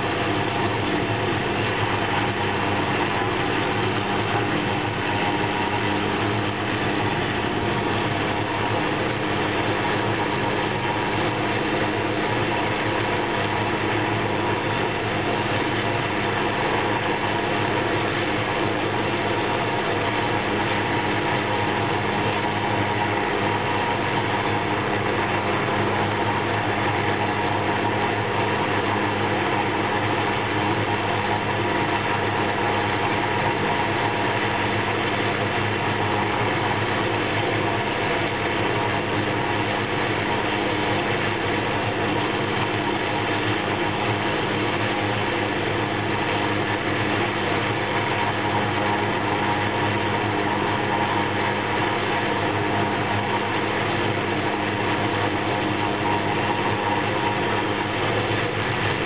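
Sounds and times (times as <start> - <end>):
helicopter turbine whine: 0.0 - 59.0.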